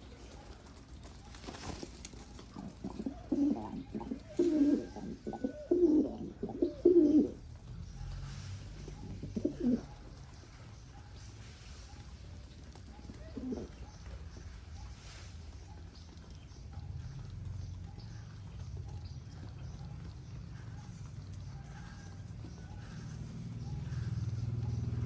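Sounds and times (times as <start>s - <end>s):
pigeon cooing: 0.3s - 8.1s, 8.7s - 11.1s, 12.7s - 14.2s, 15.7s - 25.0s.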